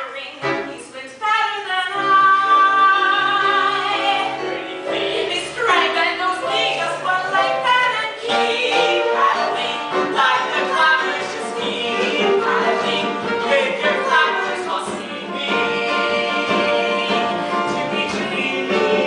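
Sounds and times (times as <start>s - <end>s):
voices singing: 0.4s - 19.0s
instrumental accompaniment: 1.9s - 19.0s.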